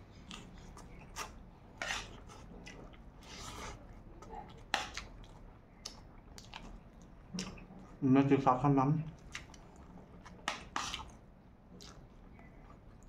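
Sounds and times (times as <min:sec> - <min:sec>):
person chewing and slurping: 0:00.2 - 0:08.0, 0:09.1 - 0:13.0.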